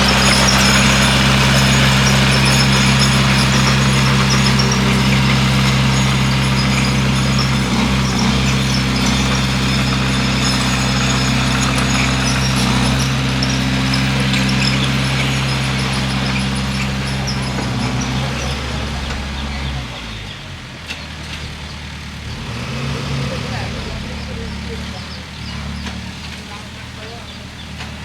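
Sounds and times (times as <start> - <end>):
bulldozer diesel engine: 0.0 - 28.0.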